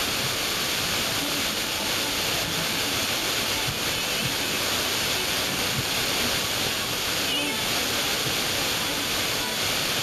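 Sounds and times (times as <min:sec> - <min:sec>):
faint distant radio station audio: 0:00.0 - 0:10.0
radio static hiss: 0:00.0 - 0:10.0.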